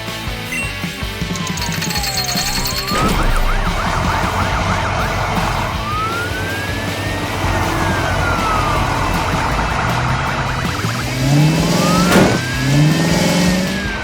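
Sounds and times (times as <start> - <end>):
emergency vehicle siren: 1.3 - 14.0.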